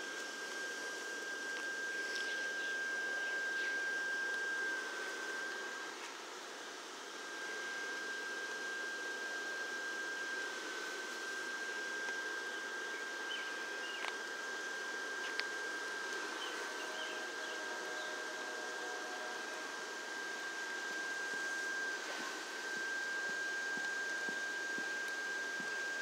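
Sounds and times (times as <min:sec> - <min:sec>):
electric blower fans whirring: 0:00.0 - 0:26.0
high whine: 0:00.0 - 0:26.0.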